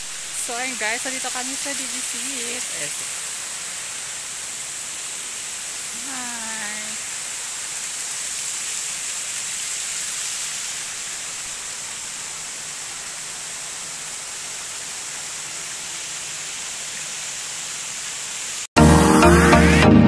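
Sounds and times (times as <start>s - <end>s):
water rushing: 0.0s - 19.8s.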